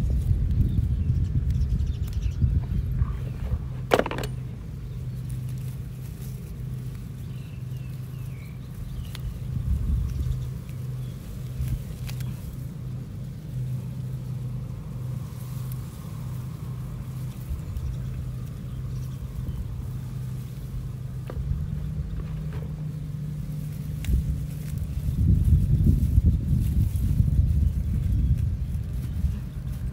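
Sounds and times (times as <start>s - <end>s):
engine humming: 0.0s - 29.9s.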